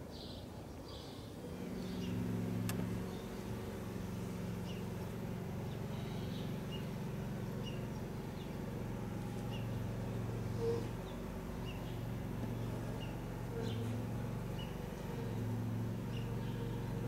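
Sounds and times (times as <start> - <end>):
low droning hum: 1.2 - 17.0.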